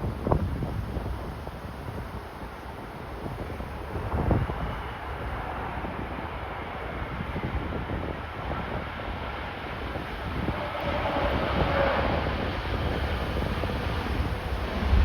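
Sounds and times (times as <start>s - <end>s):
jet airliner engine noise: 0.0s - 15.0s
wind buffeting microphone: 0.0s - 15.0s.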